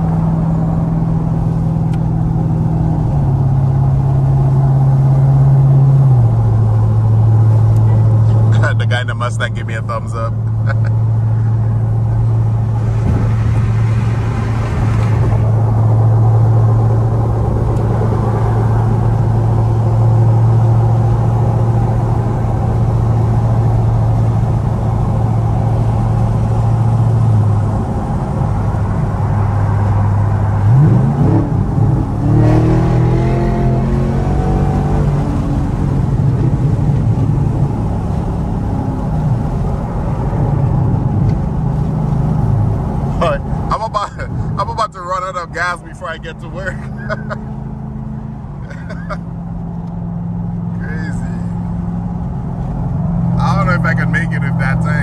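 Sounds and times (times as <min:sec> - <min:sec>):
car engine droning and revving: 0:00.0 - 0:55.0.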